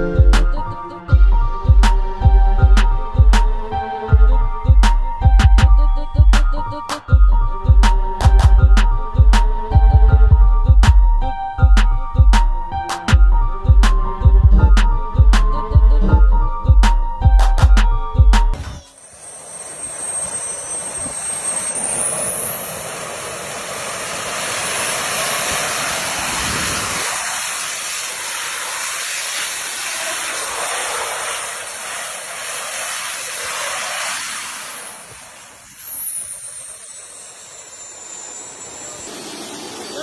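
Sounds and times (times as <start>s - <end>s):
jet turbines hissing and whining: 0.0s - 16.6s, 18.6s - 40.0s.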